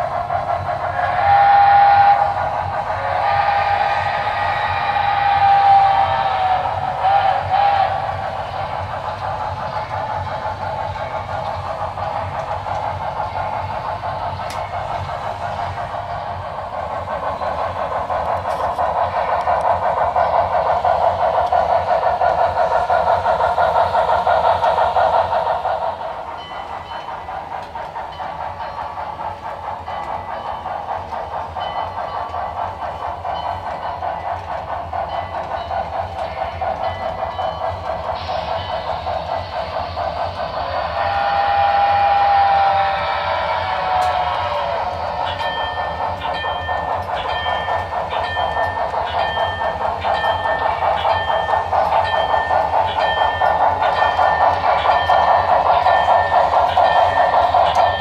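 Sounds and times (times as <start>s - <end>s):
model steam locomotive sound: 0.0s - 58.0s.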